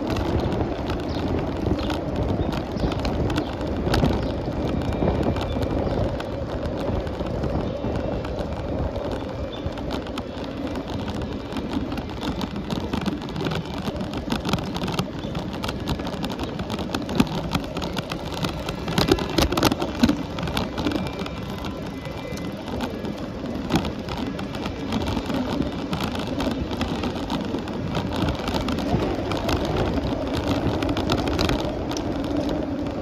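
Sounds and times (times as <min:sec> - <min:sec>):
bicycle rolling on paved road: 0:00.0 - 0:33.0
small rattling clicks: 0:00.0 - 0:33.0.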